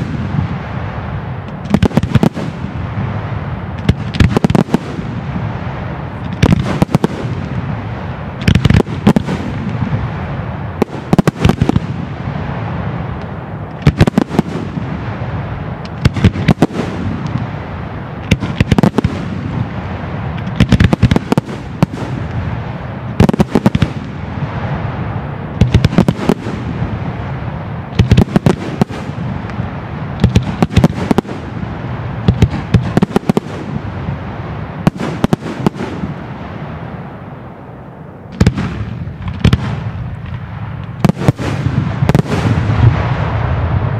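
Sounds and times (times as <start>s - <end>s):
fireworks bangs: 0.0s - 43.9s
fireworks rumble and crackle: 0.0s - 43.9s.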